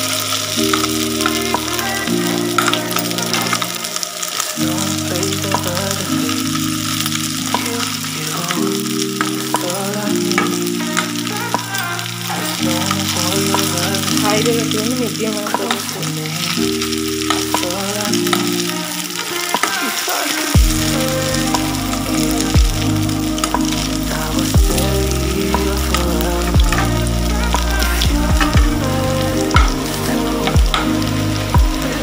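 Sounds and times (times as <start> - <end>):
background music: 0.0 - 32.0
fish frying in hot oil: 0.0 - 32.0.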